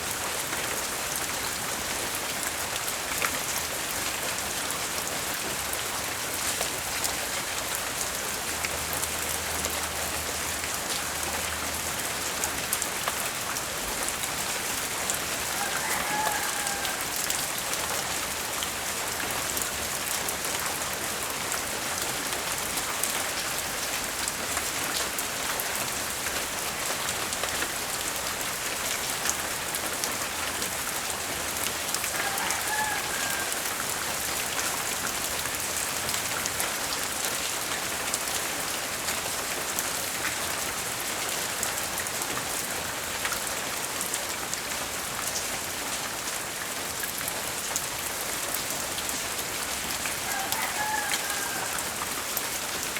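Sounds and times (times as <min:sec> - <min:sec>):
light rain falling: 0:00.0 - 0:52.9.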